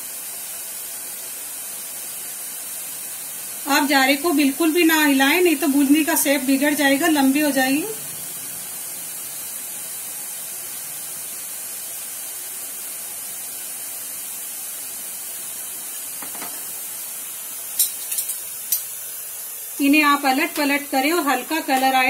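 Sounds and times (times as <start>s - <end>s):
batter deep-frying in hot oil: 0.0s - 22.0s.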